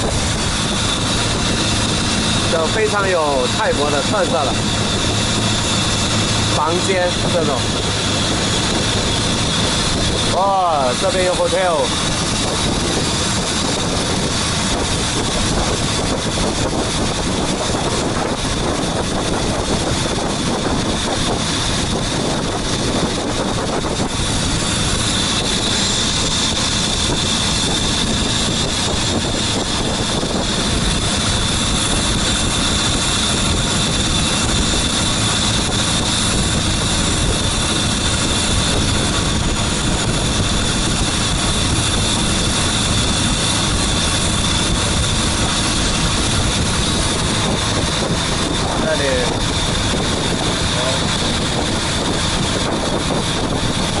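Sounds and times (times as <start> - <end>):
boat engine running: 0.0 - 54.0
high whine: 0.0 - 54.0.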